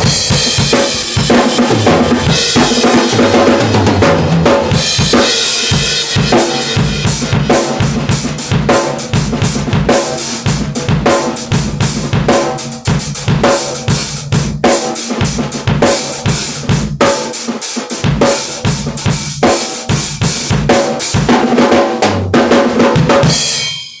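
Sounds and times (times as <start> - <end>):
drum kit fast groove: 0.0 - 24.0.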